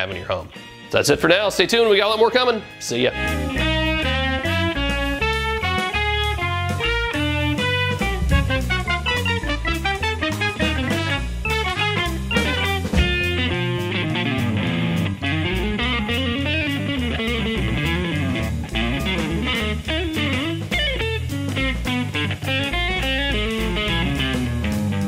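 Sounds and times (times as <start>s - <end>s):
electric guitar over drums: 3.2s - 25.0s.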